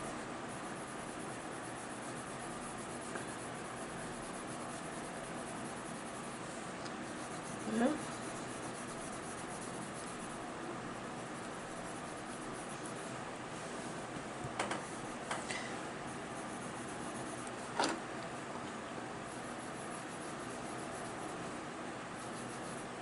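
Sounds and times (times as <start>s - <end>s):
pencil rubbing on paper: 0.0s - 13.9s, 16.0s - 17.7s, 19.2s - 21.5s, 22.1s - 23.0s.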